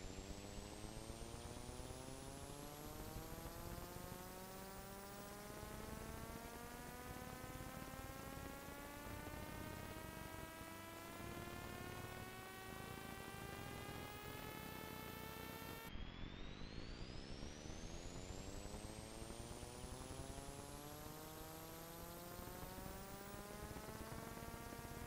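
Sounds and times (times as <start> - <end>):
faint electrical hum: 0.0 - 16.0, 16.7 - 25.0.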